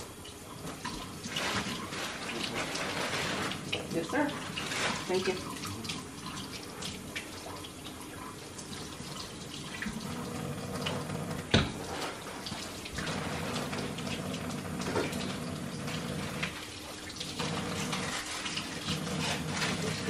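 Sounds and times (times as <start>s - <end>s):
tap water splashing into sink: 3.4s - 20.0s.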